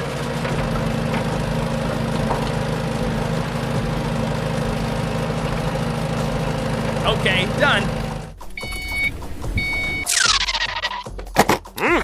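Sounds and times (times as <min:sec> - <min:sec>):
construction vehicle engine running: 0:00.0 - 0:10.8.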